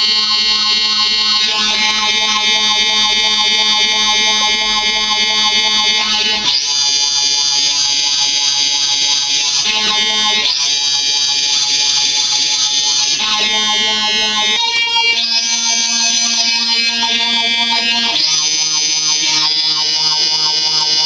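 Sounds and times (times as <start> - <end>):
harsh buzzy electronic tone: 0.0 - 21.0.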